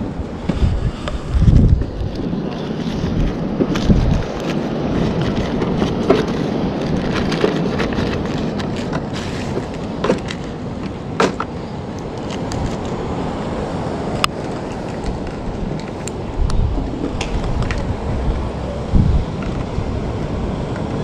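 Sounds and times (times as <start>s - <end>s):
wind blowing over microphone: 0.0s - 21.0s.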